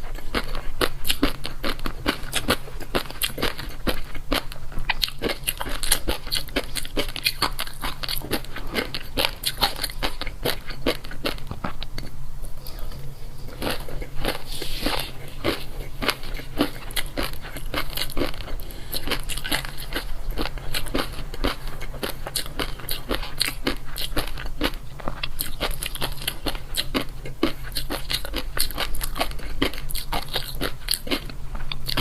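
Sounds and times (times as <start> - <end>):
crunchy chewing of food: 0.0 - 32.0.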